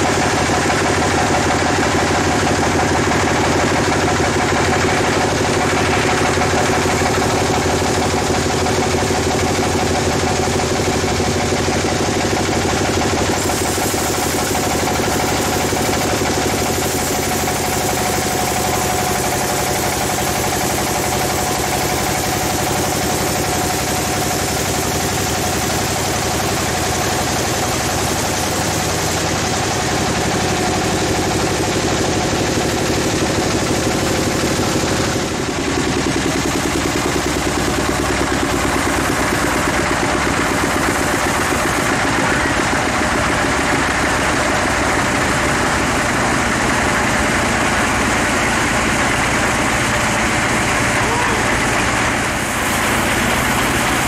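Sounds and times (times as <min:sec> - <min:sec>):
sawmill machinery droning hum: 0:00.0 - 0:54.0.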